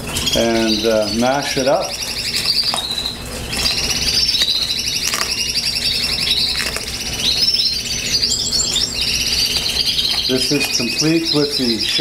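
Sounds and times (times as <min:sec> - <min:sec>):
canaries singing trills: 0:00.0 - 0:12.0.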